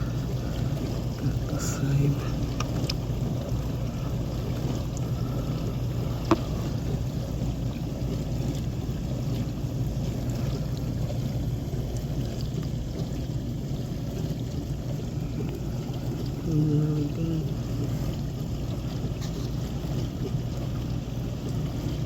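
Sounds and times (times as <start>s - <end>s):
dishwasher pump hum: 0.0s - 22.0s
water swishing: 0.0s - 22.0s.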